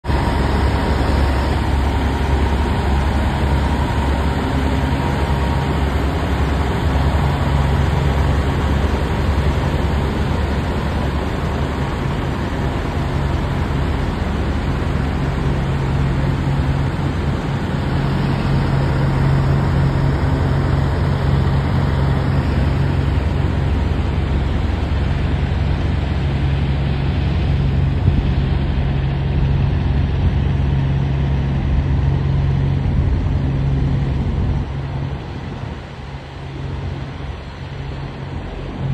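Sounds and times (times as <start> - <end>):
truck diesel engines idling: 0.1 - 38.9.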